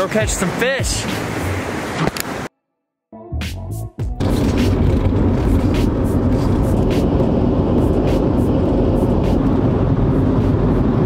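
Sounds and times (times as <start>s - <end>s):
road and engine rumble in car: 0.0s - 2.5s, 4.1s - 11.0s.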